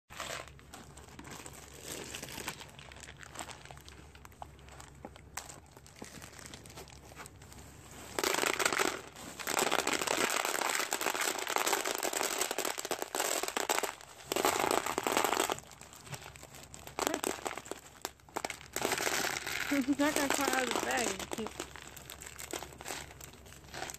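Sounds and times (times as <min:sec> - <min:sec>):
dry beans rattling: 0:00.1 - 0:07.5, 0:08.1 - 0:23.9.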